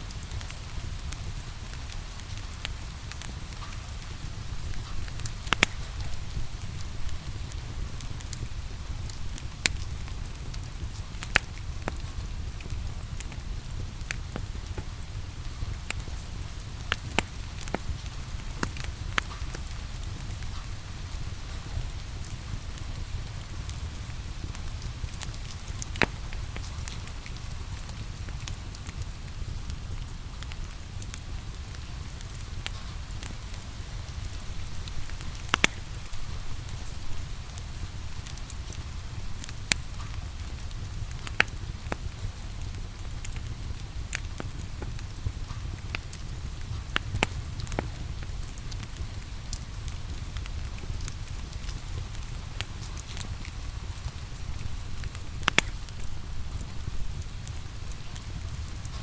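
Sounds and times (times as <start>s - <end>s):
rain hiss: 0.0s - 59.0s
wood fire crackling and popping: 0.0s - 59.0s.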